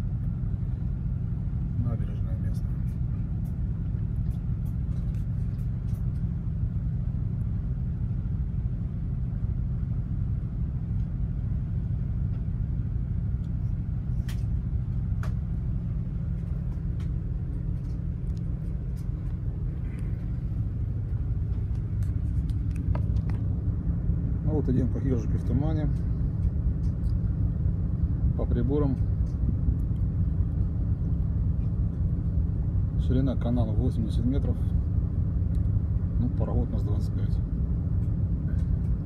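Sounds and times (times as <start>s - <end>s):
ship low rumble: 0.0s - 39.0s.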